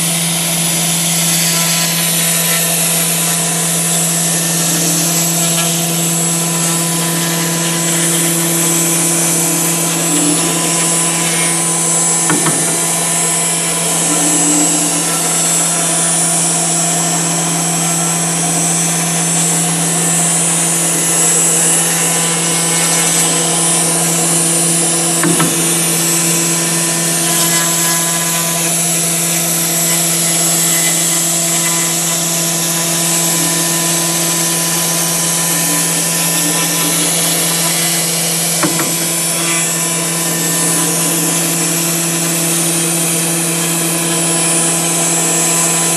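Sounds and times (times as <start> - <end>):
router spindle hum and hiss: 0.0 - 45.9.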